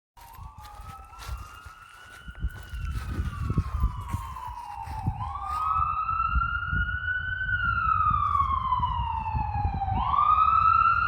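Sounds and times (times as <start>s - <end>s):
emergency siren wailing: 0.2s - 11.0s.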